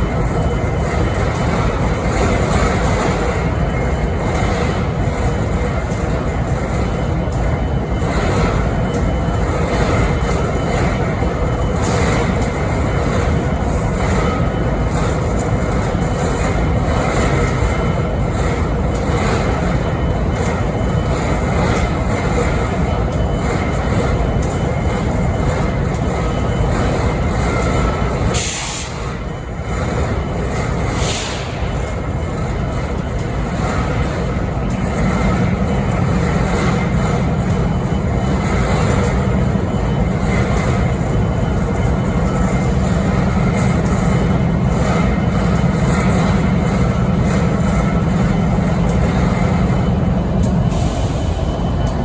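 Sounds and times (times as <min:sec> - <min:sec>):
diesel locomotive idling: 0:00.0 - 0:52.0.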